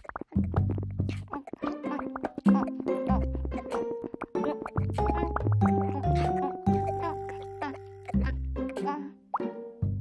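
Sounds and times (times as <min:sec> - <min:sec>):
cartoon music with plucked notes: 0:00.2 - 0:10.0.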